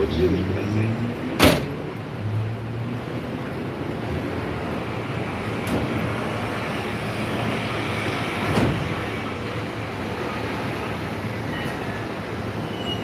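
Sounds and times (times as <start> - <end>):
loud vehicle passing: 0.0 - 10.8
vehicles passing: 0.0 - 13.0.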